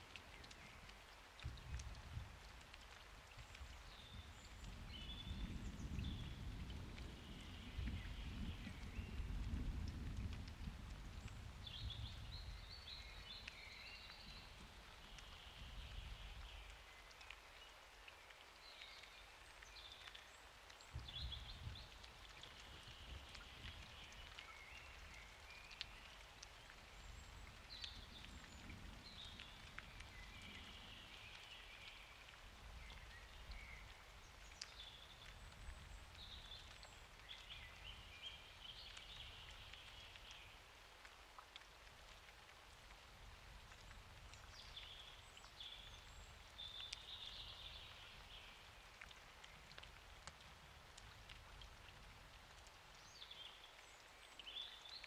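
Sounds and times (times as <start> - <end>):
faint steady rain: 0.0 - 55.0
water drips: 0.0 - 55.0.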